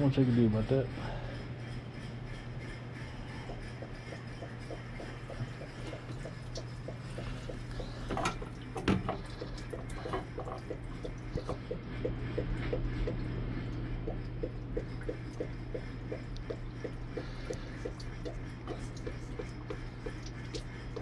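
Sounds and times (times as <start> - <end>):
antifreeze dripping: 0.0 - 21.0.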